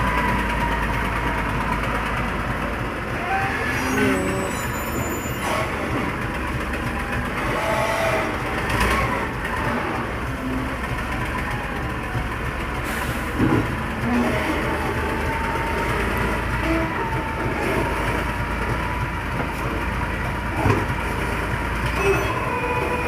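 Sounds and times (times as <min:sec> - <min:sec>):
tractor engine rumbling: 0:00.0 - 0:23.0.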